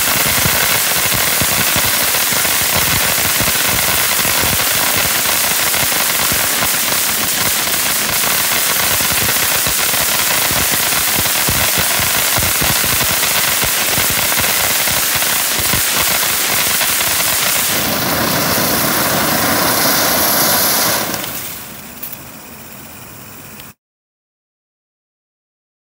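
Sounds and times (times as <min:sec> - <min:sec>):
fireworks crackling: 0:00.0 - 0:23.8.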